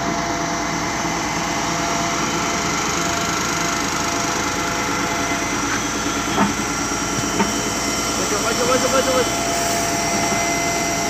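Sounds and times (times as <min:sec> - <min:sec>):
concrete pump engine humming: 0:00.0 - 0:11.0.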